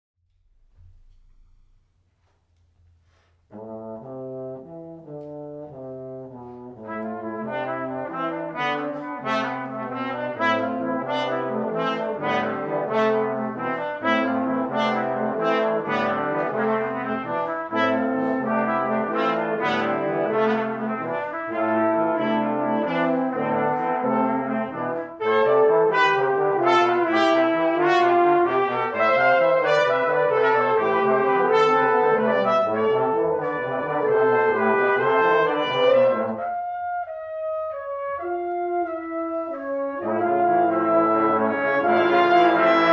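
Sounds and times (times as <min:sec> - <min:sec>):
brass ensemble playing: 0:03.5 - 0:42.9.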